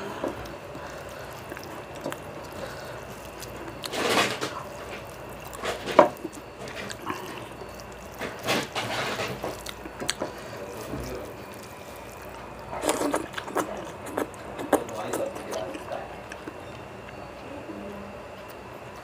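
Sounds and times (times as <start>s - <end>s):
hand mixing wet rice: 0.0s - 16.2s.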